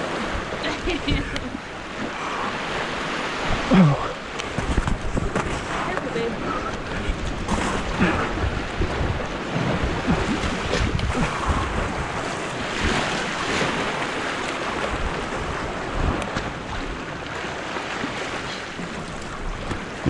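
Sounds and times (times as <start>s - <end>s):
wind buffeting microphone: 0.0s - 17.5s
surf washing over rocks: 0.0s - 20.0s.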